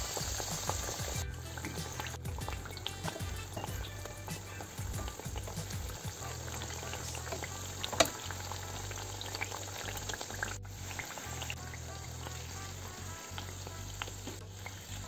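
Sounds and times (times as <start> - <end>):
dough frying in oil: 0.0 - 15.0.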